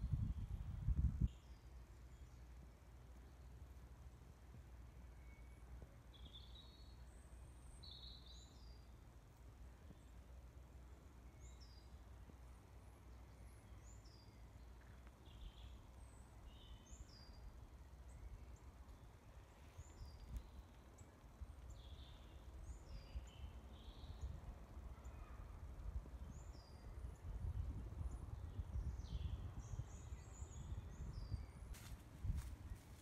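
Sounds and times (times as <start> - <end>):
small birds singing: 0.0 - 3.7, 5.1 - 9.0, 9.7 - 33.0.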